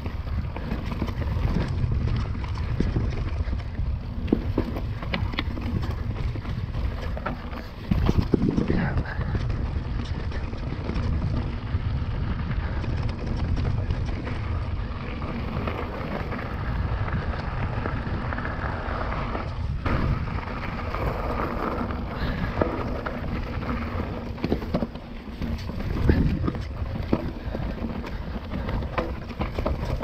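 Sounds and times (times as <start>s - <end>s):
bike clicks and rattles: 0.0s - 30.0s
bike tyres crunching on gravel: 0.0s - 30.0s
wind rumbling on microphone: 0.0s - 30.0s.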